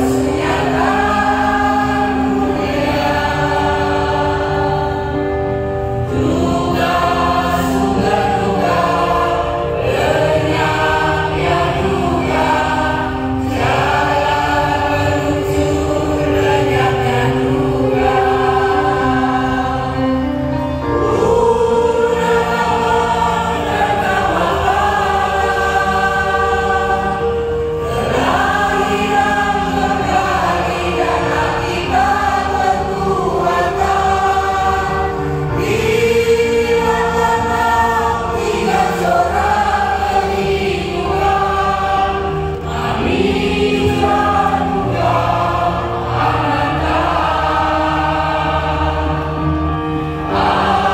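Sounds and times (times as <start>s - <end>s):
mixed choir singing in harmony: 0.0s - 50.9s.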